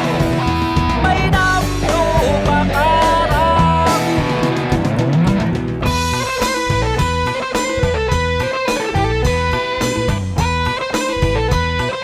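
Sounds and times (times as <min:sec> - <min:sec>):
bass and drums backing track: 0:00.0 - 0:12.0
lead guitar melody: 0:00.0 - 0:12.0.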